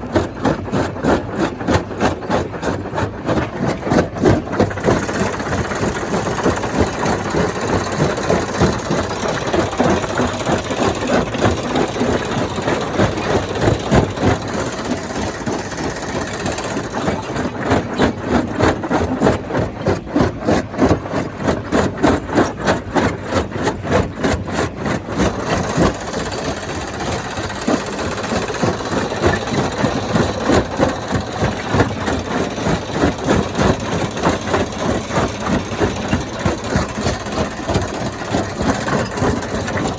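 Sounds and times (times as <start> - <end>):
stone crusher machinery pulsing: 0.0 - 39.9.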